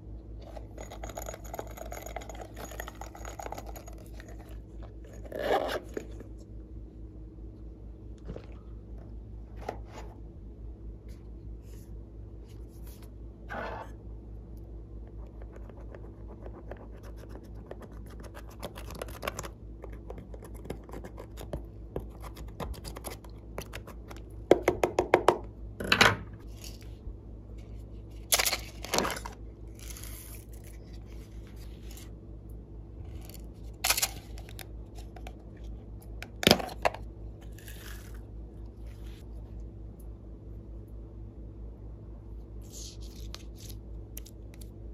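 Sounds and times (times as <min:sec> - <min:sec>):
low hum: 0:00.0 - 0:44.9.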